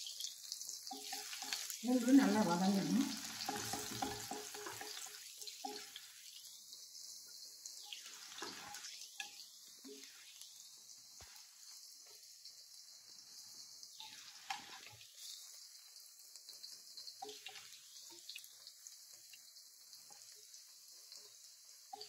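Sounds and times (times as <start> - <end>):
oil sizzling with crackles: 0.0 - 22.0.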